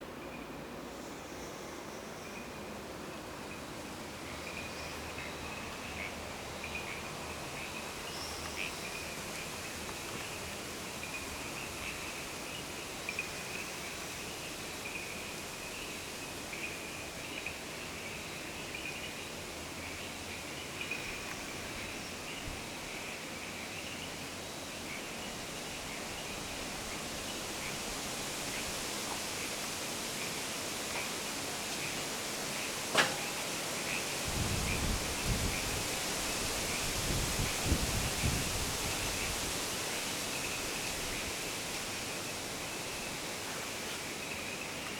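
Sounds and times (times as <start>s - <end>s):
steady rushing hiss: 0.0s - 44.9s.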